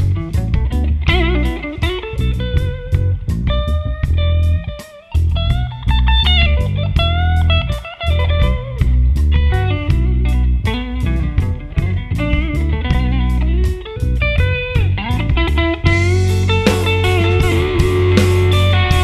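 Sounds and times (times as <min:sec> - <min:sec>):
drum kit: 0:00.0 - 0:19.0
electric bass: 0:00.0 - 0:19.0
electric guitar lead: 0:00.0 - 0:19.0.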